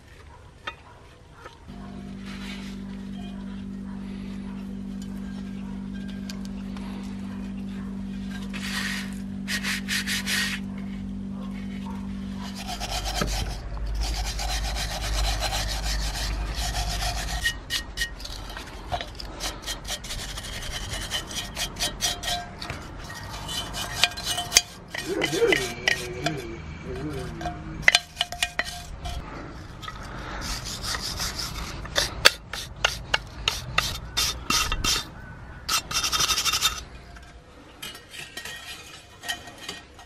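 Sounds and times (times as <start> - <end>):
steady low hum: 1.6 - 40.0
scraping and rubbing on iron: 1.7 - 36.9, 37.6 - 40.0.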